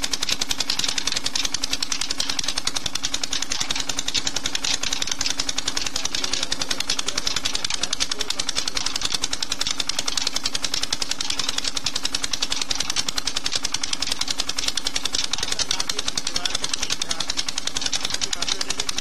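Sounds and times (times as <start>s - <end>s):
diesel engine knocking: 0.0s - 19.0s.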